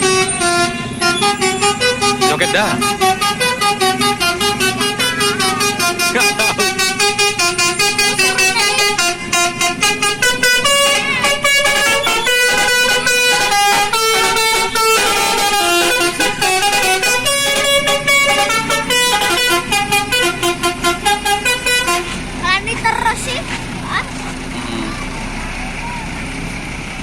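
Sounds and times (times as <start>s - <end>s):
musical air horn playing a tune: 0.0s - 22.2s.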